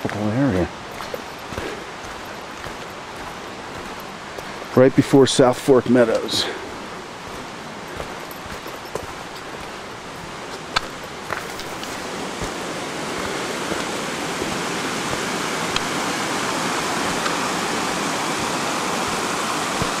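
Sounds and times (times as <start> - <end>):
rushing mountain stream: 0.0 - 20.0.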